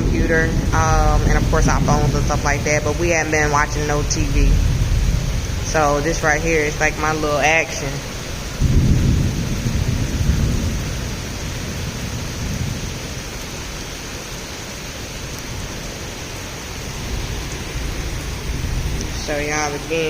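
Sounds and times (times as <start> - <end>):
thunder rumbling low: 0.0 - 14.0, 15.2 - 20.0
heavy rain hissing: 0.0 - 20.0.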